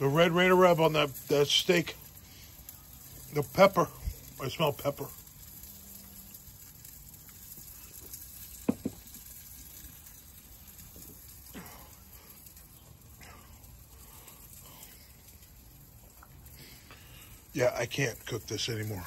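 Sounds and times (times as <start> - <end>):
steak sizzling over fire: 0.0 - 19.0.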